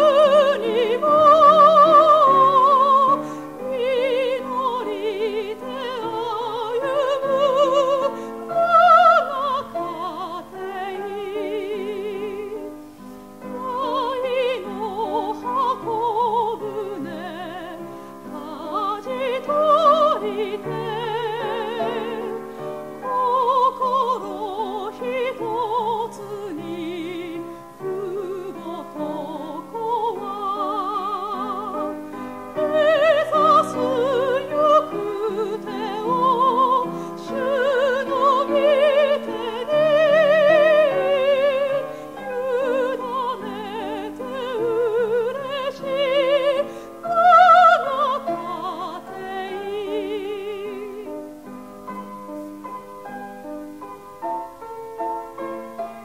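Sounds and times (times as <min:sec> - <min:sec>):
person singing a hymn with vibrato: 0:00.0 - 0:51.5.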